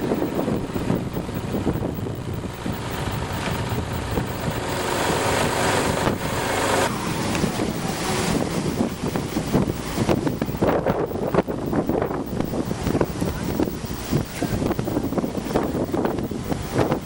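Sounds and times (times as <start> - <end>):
engine running with rough rumble: 0.0 - 17.0.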